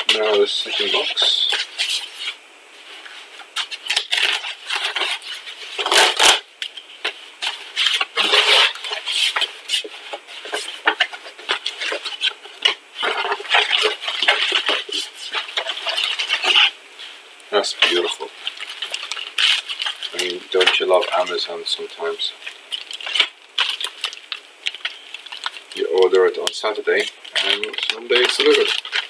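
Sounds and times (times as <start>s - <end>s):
cardboard packaging crinkling: 0.0s - 29.0s.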